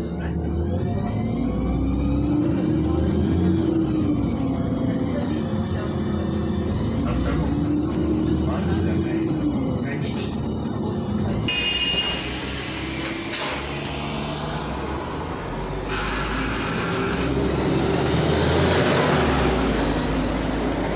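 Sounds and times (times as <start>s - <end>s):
bus engine and road rumble: 0.0s - 20.9s.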